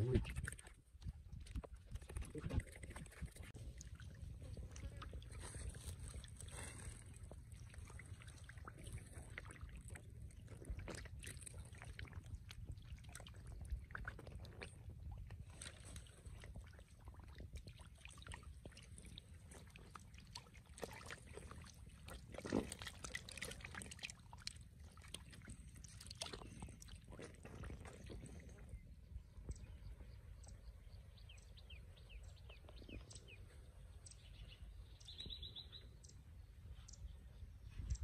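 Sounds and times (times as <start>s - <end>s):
fish splashing in shallow water: 0.0s - 31.1s.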